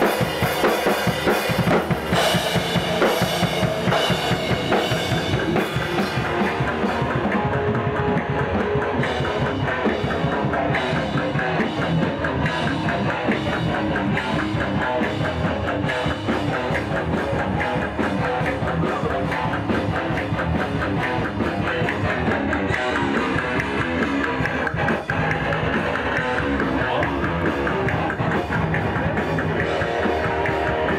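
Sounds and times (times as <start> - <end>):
distorted electric guitar: 0.0 - 30.9
drum kit: 0.0 - 30.9.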